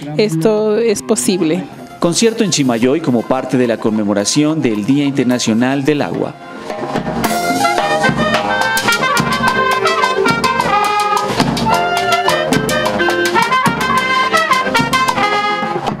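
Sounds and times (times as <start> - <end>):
wind band playing lively tune: 0.0 - 16.0.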